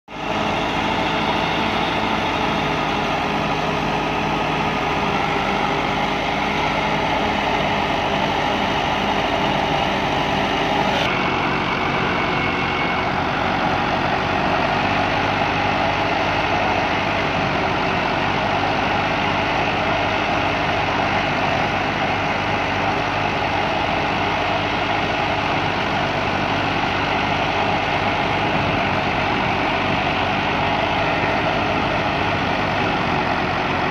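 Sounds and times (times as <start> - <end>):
thresher drum and fan running: 0.1 - 33.9
tractor diesel engine running: 0.1 - 33.9.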